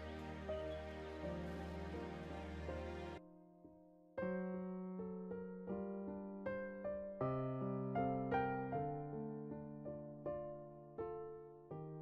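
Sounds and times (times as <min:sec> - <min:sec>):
gentle electric piano melody: 0:00.0 - 0:12.0.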